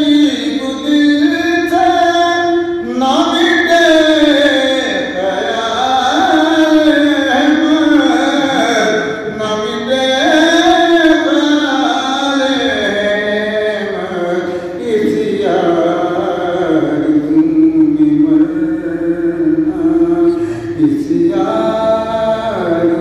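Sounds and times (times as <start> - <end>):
man singing devotional hymn: 0.0 - 23.0.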